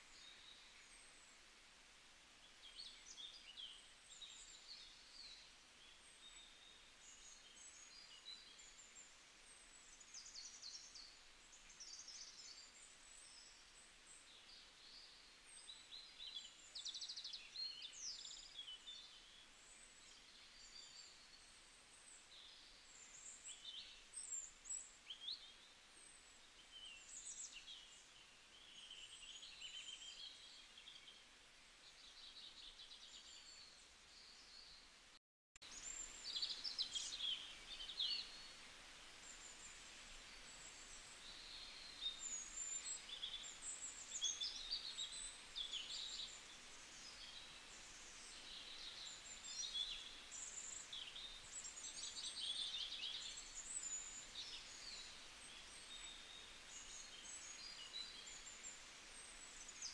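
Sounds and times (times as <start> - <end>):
low steady hiss: 0.0 - 59.9.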